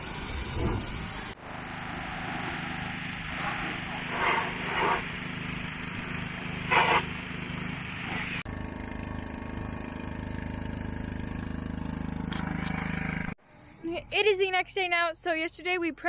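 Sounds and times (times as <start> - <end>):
pressure washer spraying water: 0.0 - 13.2
engine running: 0.0 - 14.1.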